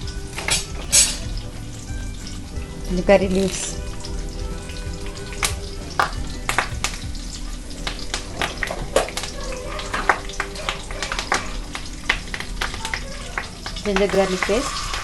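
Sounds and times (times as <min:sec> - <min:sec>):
crackles and pops in oil: 0:00.0 - 0:15.0
leaves sizzling in hot oil: 0:00.0 - 0:15.0.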